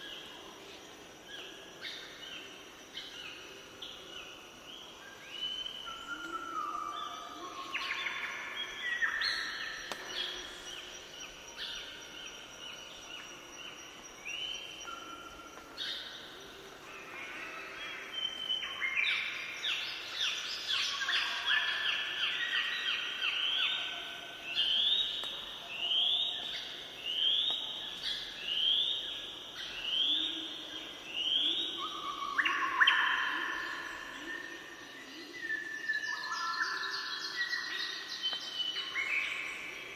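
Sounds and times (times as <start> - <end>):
birds singing and calling: 1.3 - 23.9, 24.5 - 39.9.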